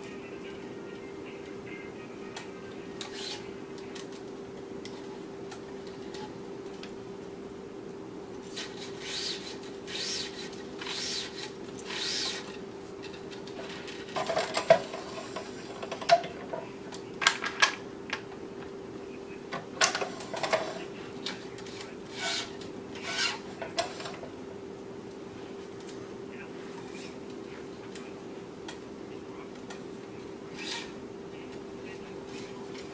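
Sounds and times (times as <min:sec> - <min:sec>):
steady hum: 0:00.0 - 0:32.9.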